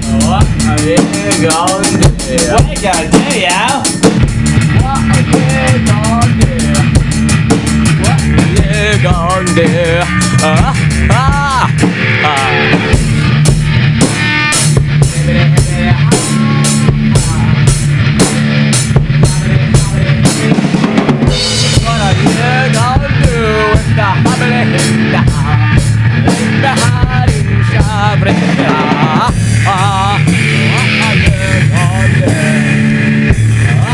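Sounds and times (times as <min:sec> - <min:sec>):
death metal music: 0:00.0 - 0:33.9
drum kit beat: 0:00.0 - 0:33.9
low bass line: 0:00.0 - 0:33.9.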